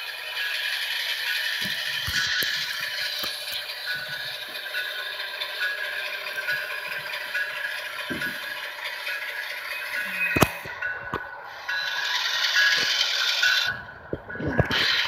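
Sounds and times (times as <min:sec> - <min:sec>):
model train rattling on track: 0:00.0 - 0:15.0.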